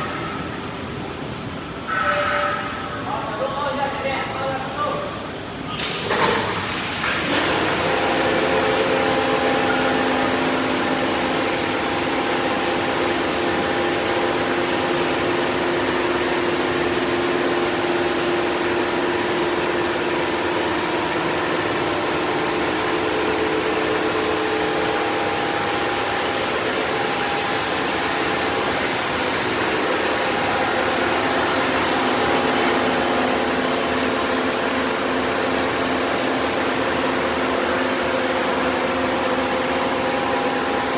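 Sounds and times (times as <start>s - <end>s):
panel saw machine running: 5.8s - 40.9s.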